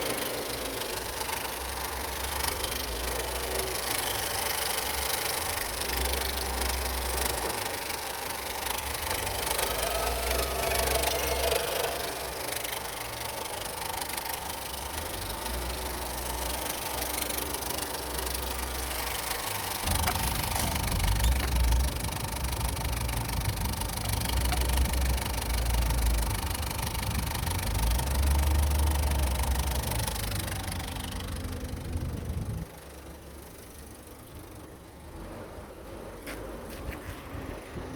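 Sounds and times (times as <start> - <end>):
car engine running: 0.0 - 36.8.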